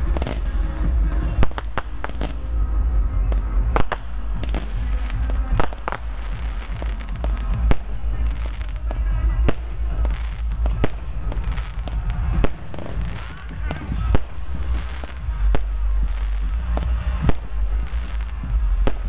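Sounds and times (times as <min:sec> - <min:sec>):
fireworks bangs: 0:00.0 - 0:19.0
fountain fireworks hissing and crackling: 0:00.0 - 0:19.0
low rumble: 0:00.0 - 0:19.0.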